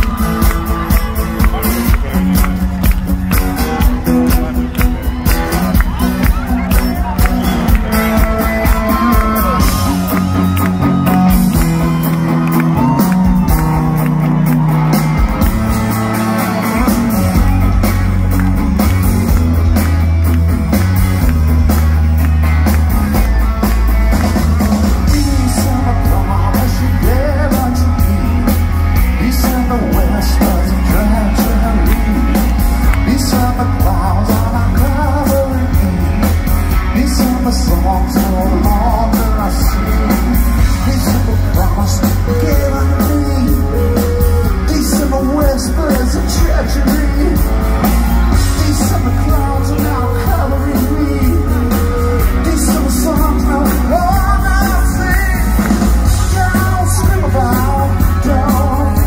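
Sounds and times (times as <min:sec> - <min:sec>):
person singing: 0:00.0 - 0:19.6, 0:22.1 - 0:59.0
live rock band playing loudly: 0:00.0 - 0:59.0.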